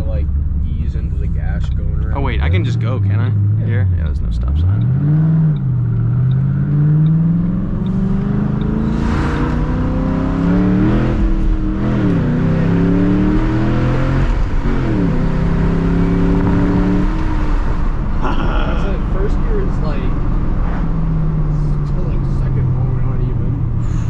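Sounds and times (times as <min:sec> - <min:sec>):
car engine accelerating through gears: 0:00.0 - 0:24.0.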